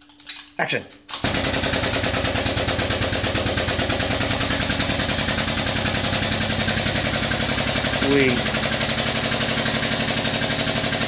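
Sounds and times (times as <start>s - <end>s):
pump rapid mechanical chatter: 1.2s - 11.0s.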